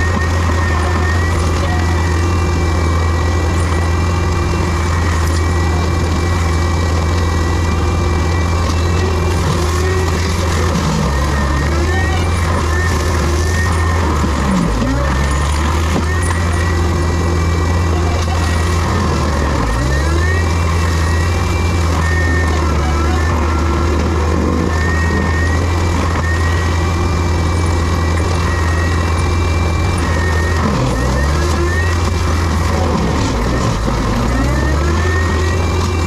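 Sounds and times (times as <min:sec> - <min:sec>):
heavy diesel equipment running: 0:00.0 - 0:36.0
mechanical whine: 0:00.0 - 0:36.0.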